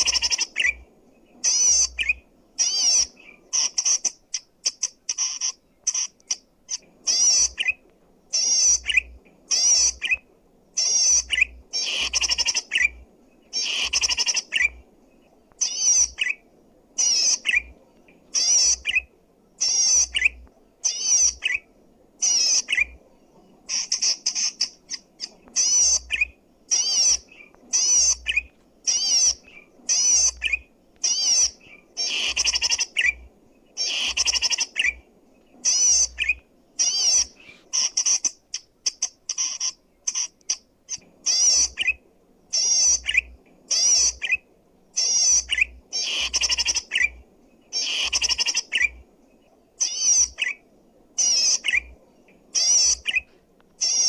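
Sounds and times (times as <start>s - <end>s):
bird singing high warbling phrases: 0.0s - 54.0s.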